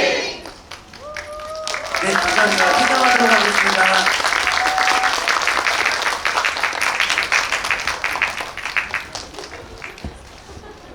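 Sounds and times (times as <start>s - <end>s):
audience applauding: 0.4s - 10.9s.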